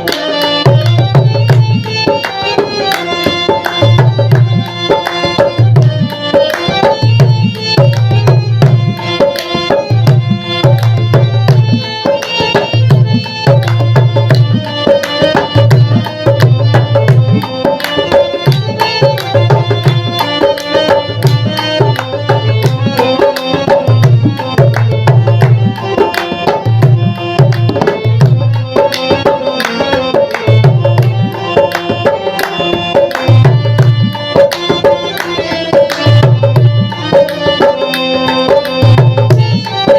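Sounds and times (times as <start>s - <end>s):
hand drum percussion: 0.0s - 39.9s.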